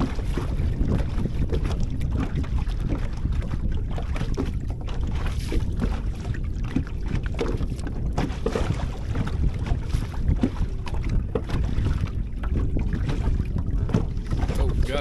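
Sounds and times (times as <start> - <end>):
waves lapping against boat hull: 0.0 - 15.0
wind rumbling on microphone: 0.0 - 15.0.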